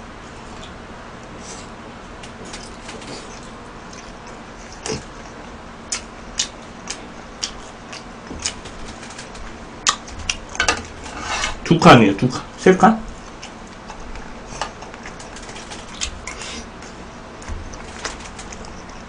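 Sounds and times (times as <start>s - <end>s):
man chewing rice: 0.2s - 11.6s, 13.1s - 19.0s.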